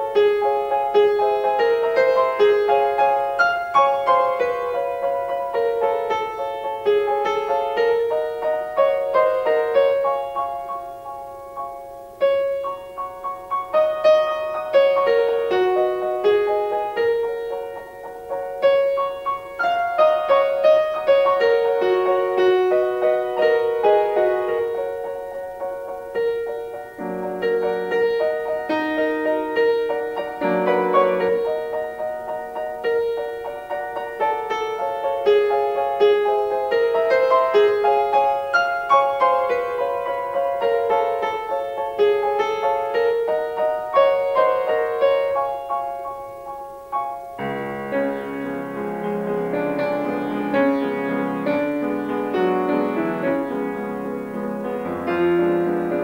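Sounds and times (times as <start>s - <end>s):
solo grand piano piece: 0.0s - 56.0s.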